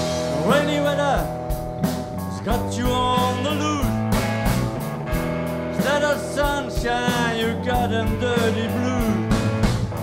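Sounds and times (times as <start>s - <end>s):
bass guitar: 0.0s - 10.0s
drums: 0.0s - 10.0s
electric guitar lead with bending notes: 0.0s - 10.0s.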